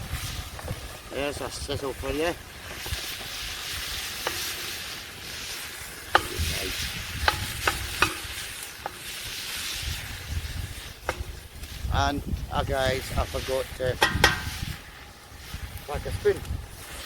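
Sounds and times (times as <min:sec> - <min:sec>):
meat and vegetables sizzling: 0:00.0 - 0:17.0.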